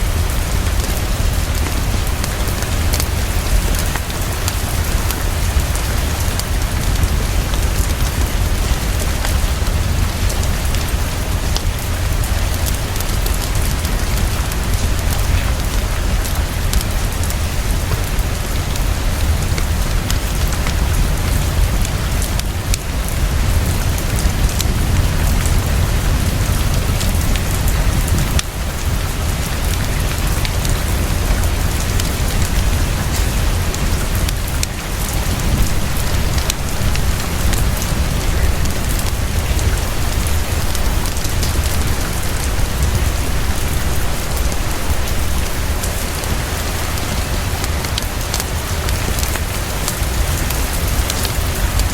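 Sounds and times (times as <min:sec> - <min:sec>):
heavy rainfall: 0:00.0 - 0:51.9.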